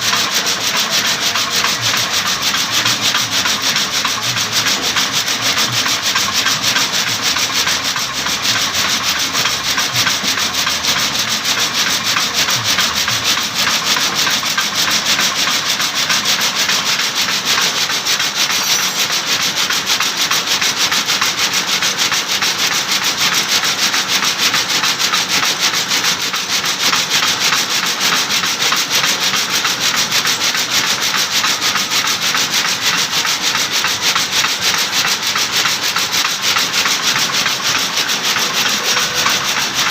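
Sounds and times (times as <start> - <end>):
wooden sticks rasping in machine: 0.0 - 39.9.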